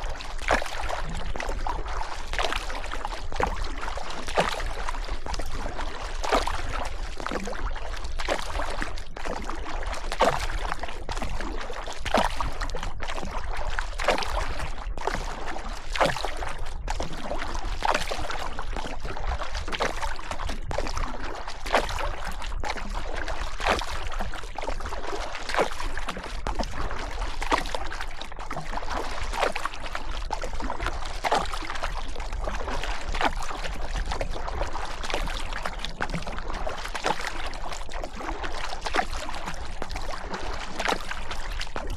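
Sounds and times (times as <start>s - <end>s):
paddle splashing in water: 0.0s - 41.9s.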